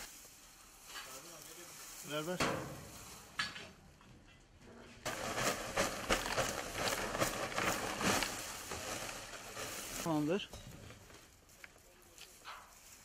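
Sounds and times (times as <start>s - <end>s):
dry stalks rustling and crackling: 0.0s - 4.3s, 5.0s - 13.0s.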